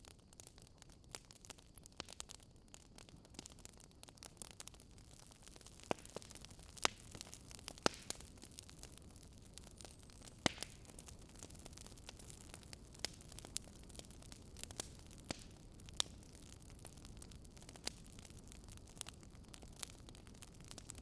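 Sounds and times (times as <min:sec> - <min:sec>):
soft steady hiss: 0:00.0 - 0:21.0
wood fire pops: 0:02.0 - 0:21.0.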